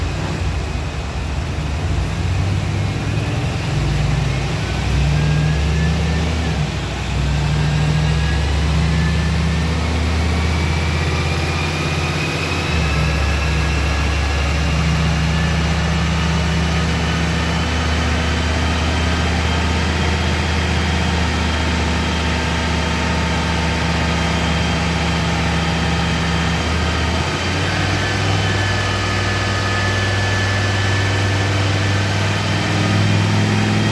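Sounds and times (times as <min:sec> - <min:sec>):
engine running on dyno: 0:00.0 - 0:33.9
turbo whine: 0:00.0 - 0:33.9.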